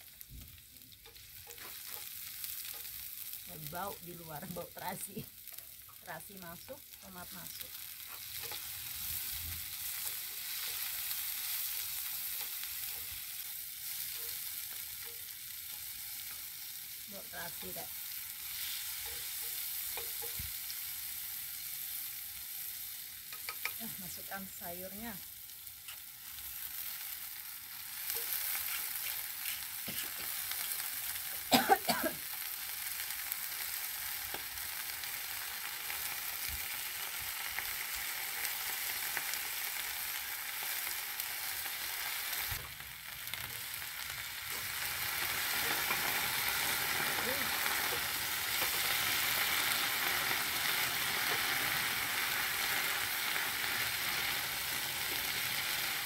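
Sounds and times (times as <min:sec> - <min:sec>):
metal spatula stir-frying: 0:00.0 - 0:56.0
vegetables sizzling in a frying pan: 0:00.0 - 0:56.0.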